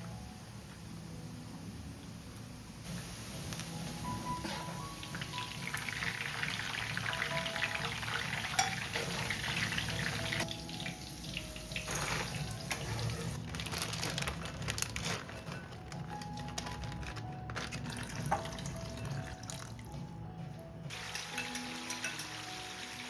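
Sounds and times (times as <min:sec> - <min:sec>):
crackling sizzling hiss: 0:00.0 - 0:17.1, 0:20.9 - 0:23.0
soft background music: 0:00.0 - 0:23.0.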